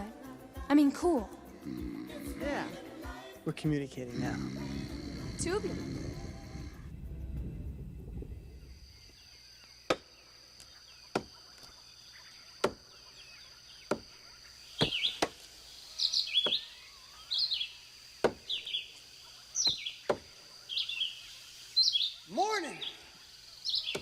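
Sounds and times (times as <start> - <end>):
birds chirping: 0.8 - 24.0.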